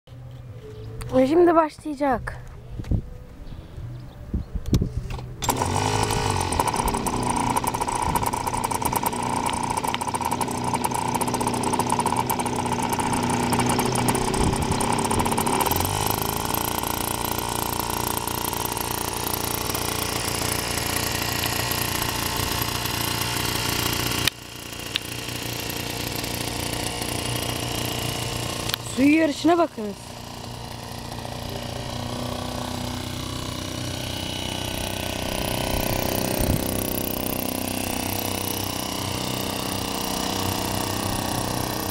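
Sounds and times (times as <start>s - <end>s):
model boat engine running: 5.4s - 41.9s.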